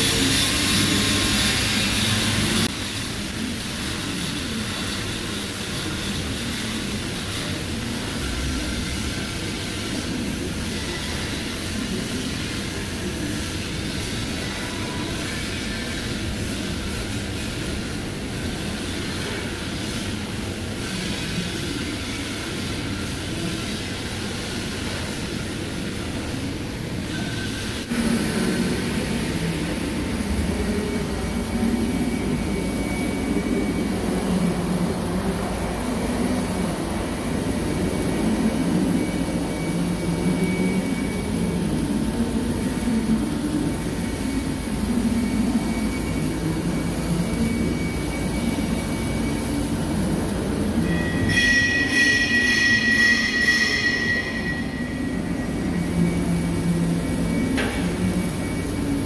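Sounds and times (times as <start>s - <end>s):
high whine with tones: 0.0s - 59.0s
welding arc noise: 0.0s - 59.0s.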